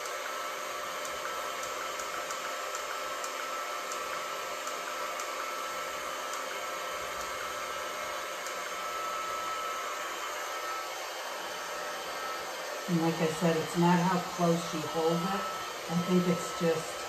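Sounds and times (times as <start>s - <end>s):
heat gun blowing with whine: 0.0s - 17.0s.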